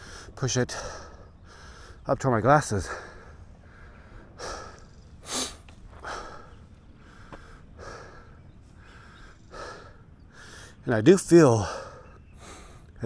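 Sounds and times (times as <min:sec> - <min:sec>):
heavy breathing: 0:00.0 - 0:02.1, 0:02.7 - 0:10.8, 0:11.6 - 0:13.0.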